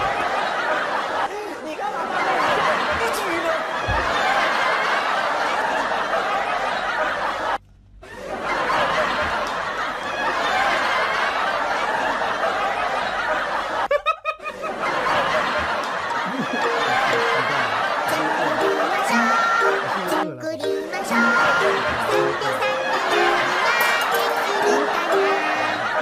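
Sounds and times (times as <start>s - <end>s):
people laughing and snickering: 0.0s - 26.0s.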